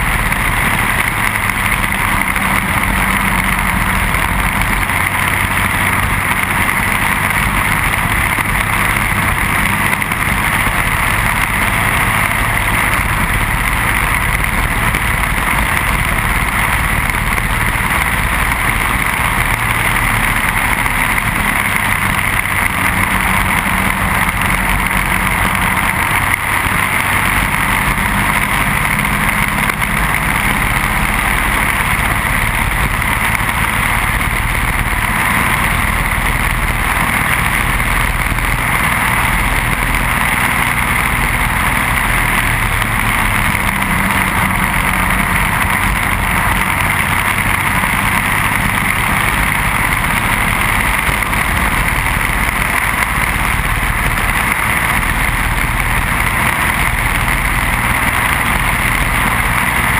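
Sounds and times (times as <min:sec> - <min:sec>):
kart engine running: 0:00.0 - 0:59.9
road noise: 0:00.0 - 0:59.9.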